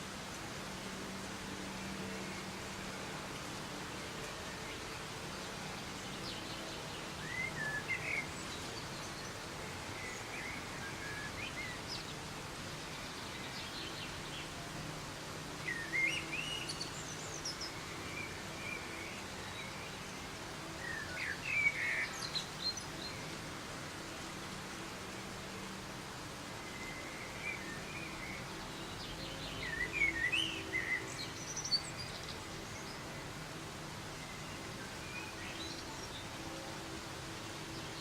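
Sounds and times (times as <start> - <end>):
soft rain hissing: 0.0 - 38.0
songbird chirping: 0.0 - 38.0.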